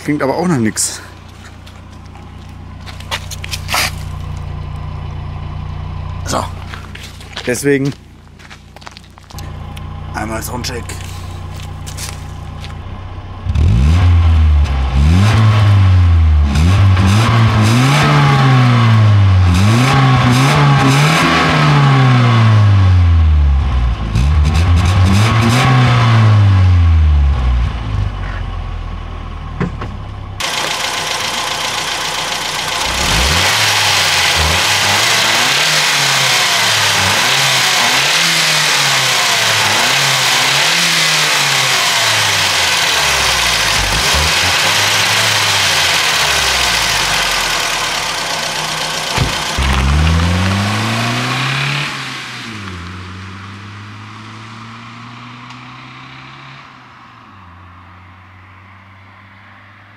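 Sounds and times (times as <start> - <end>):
car engine revving: 0.0 - 59.8.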